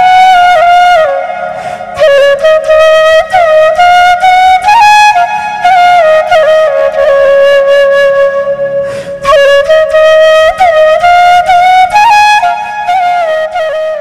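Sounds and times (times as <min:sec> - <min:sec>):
solo flute melody: 0:00.0 - 0:14.0.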